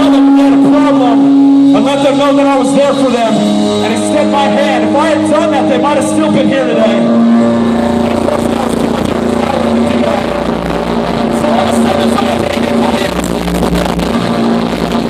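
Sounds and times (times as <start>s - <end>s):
distorted electric guitars: 0.0s - 15.0s
live metal band playing: 0.0s - 15.0s.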